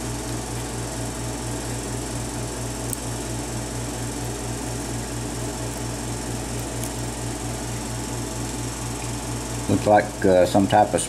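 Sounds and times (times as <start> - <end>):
low machine hum pulsing: 0.0 - 11.0.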